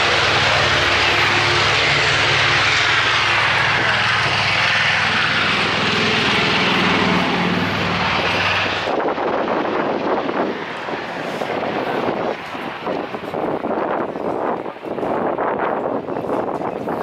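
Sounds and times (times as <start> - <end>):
aircraft engine rushing drone: 0.0 - 17.0.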